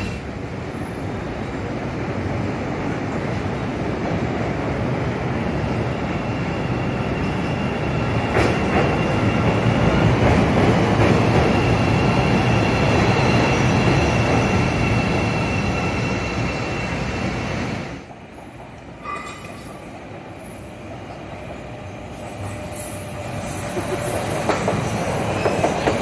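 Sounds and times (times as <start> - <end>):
train high steady whine: 0.0 - 26.0
train rumbling and clacking over rails: 0.0 - 26.0.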